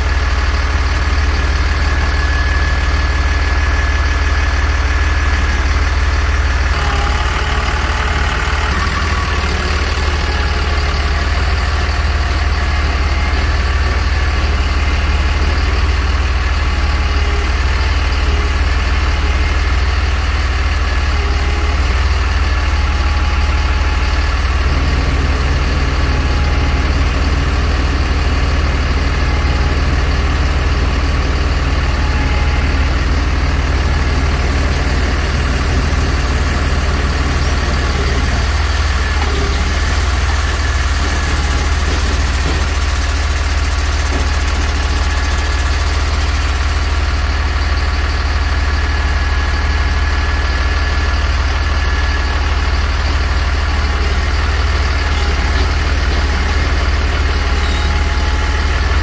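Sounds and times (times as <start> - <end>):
diesel truck engine idling: 0.0 - 59.0
hydraulics working: 0.0 - 59.0.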